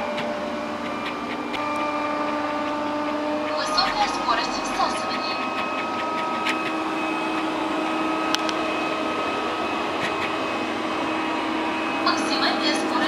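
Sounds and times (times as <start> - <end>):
robot vacuum cleaner running: 0.0 - 13.0.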